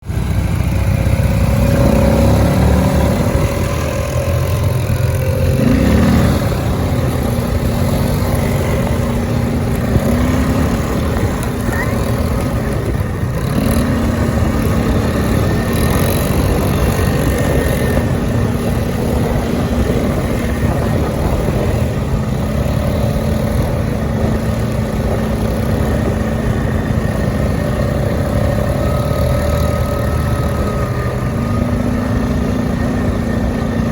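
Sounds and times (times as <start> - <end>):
quad bike engine running: 0.0 - 33.9.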